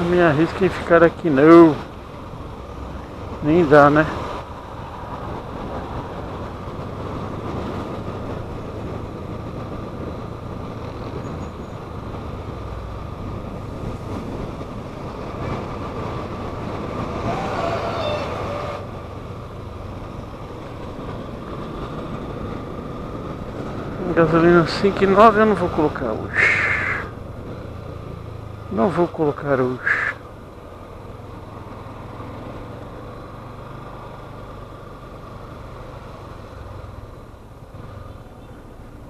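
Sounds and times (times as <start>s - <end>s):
motorcycle engine hum: 0.0s - 39.0s
wind and road noise: 0.0s - 39.0s.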